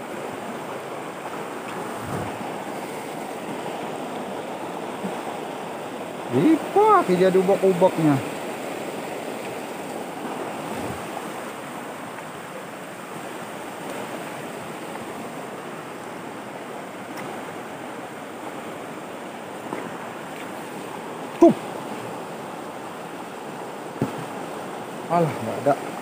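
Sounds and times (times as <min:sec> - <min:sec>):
river rapids rushing over rocks: 0:00.0 - 0:26.0.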